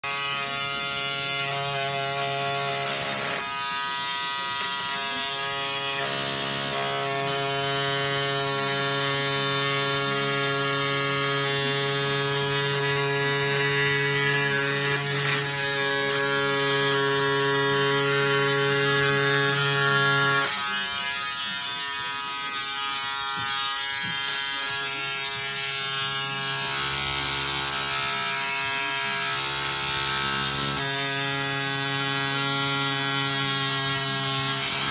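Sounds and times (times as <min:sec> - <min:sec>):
electric scissors motor buzz: 0:00.0 - 0:34.9.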